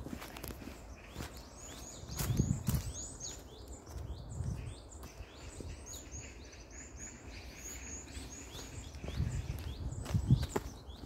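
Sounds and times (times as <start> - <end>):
footsteps in dry leaves: 0.0 - 6.2, 7.3 - 11.0
small birds chirping: 0.0 - 11.0.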